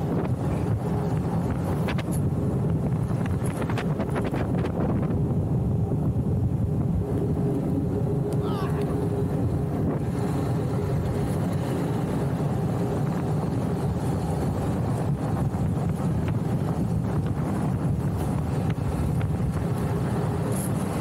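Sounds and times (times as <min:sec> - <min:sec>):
wheels rolling on asphalt: 0:00.0 - 0:21.0
wind on microphone: 0:00.0 - 0:21.0.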